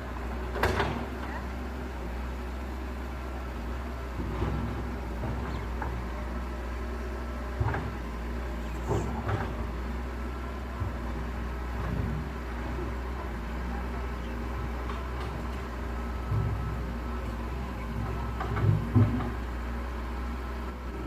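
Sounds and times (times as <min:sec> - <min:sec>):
diesel engine humming: 0:00.0 - 0:21.0
machine clunks and knocks: 0:00.4 - 0:01.6, 0:03.8 - 0:19.6.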